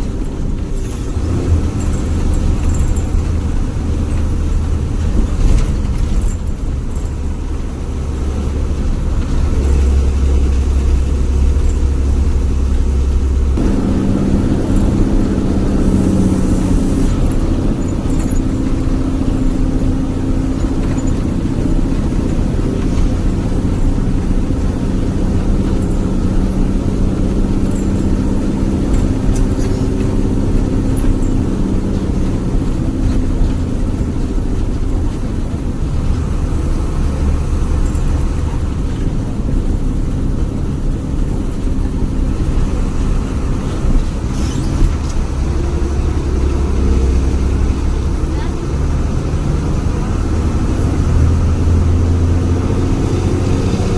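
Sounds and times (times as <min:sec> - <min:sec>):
bus engine growling: 0:00.0 - 0:53.9.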